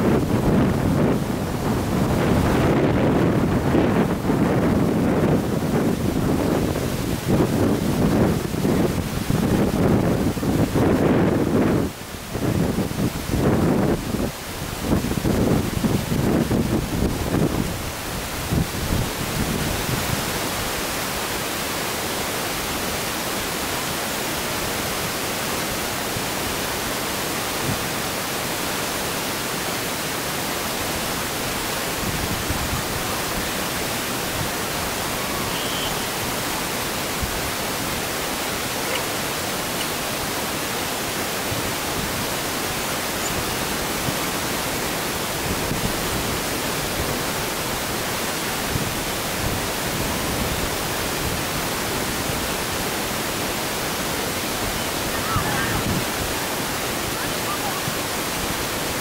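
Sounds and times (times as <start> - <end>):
steady hiss: 11.6 - 59.0.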